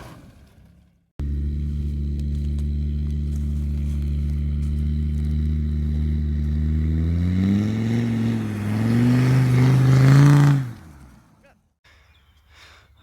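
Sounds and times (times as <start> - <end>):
diesel engine revving: 0.0 - 11.4.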